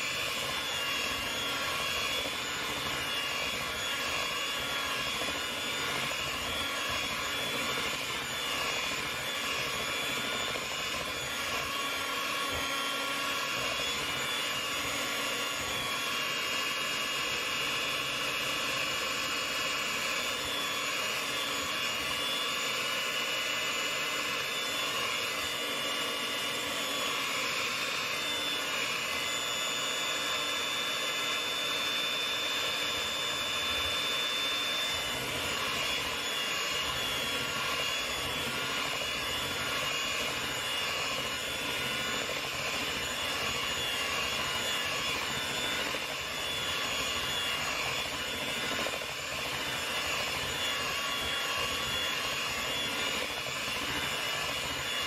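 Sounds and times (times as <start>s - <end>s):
electric hand mixer whine: 0.0s - 55.0s.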